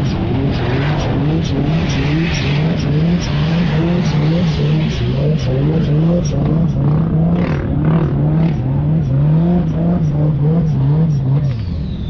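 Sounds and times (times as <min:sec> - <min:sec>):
off-road vehicle engine: 0:00.0 - 0:12.0.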